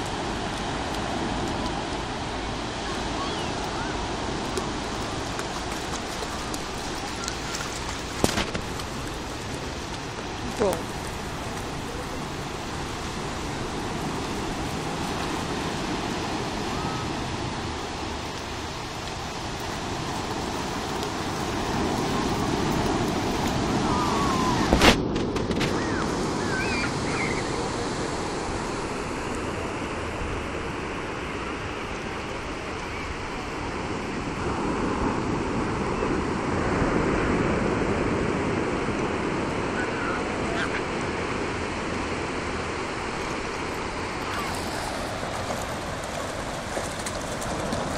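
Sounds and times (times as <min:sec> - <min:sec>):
waves breaking: 0:00.0 - 0:47.9.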